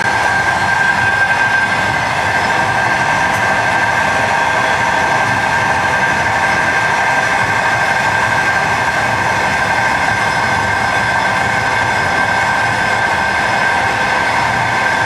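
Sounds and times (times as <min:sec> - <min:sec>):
high whine: 0:00.0 - 0:15.0
train running gear rumble: 0:00.0 - 0:15.0.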